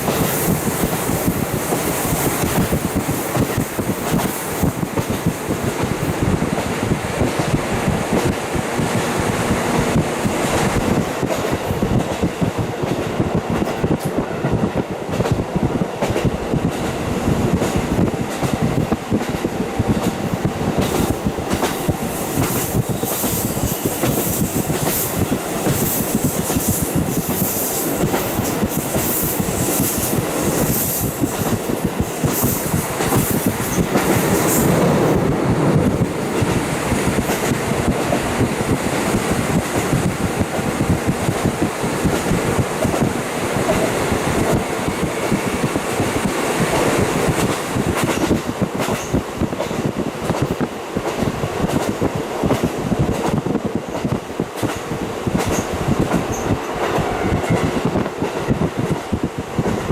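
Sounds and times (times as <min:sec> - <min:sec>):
train running noise: 0:00.0 - 0:59.9
wind rushing in: 0:00.0 - 0:59.9.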